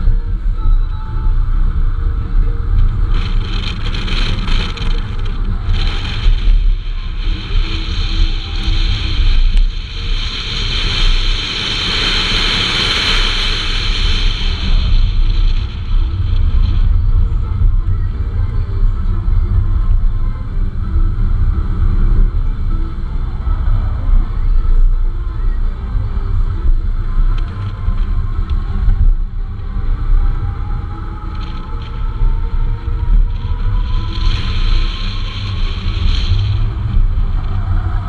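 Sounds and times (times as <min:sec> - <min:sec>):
car engine rumble: 0:00.0 - 0:38.0
high-pitched rushing noise: 0:00.0 - 0:38.0.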